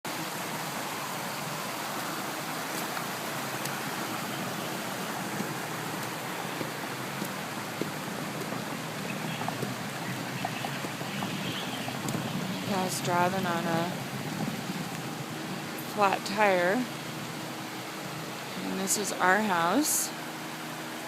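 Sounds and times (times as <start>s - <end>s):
rain and water rushing: 0.0s - 21.0s.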